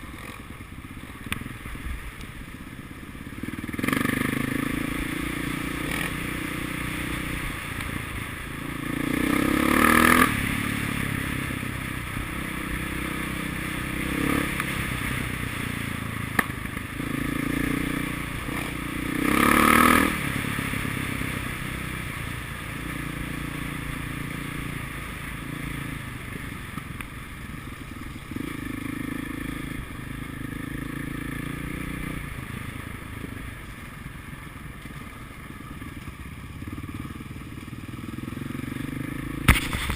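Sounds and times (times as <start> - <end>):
motocross motorcycle engines running: 0.0 - 39.9.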